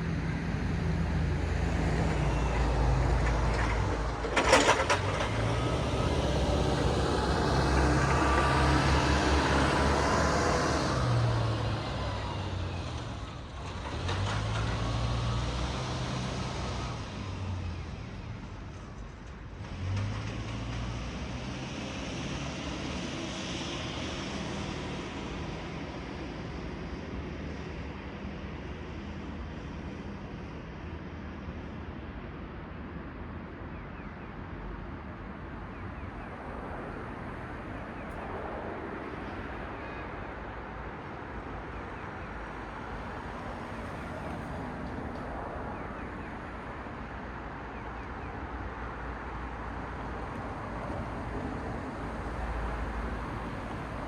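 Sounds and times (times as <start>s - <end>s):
car passing on road: 0.0s - 30.5s, 34.6s - 54.0s.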